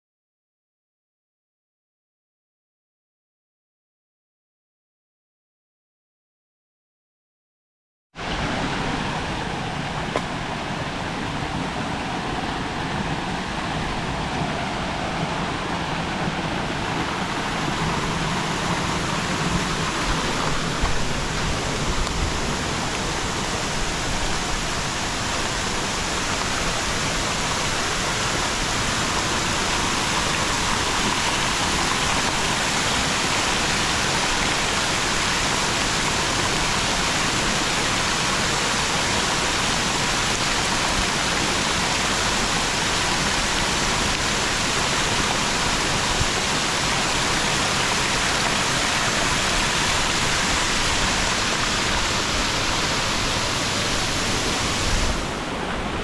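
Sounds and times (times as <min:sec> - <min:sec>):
waterfall rushing: 0:08.2 - 0:56.0.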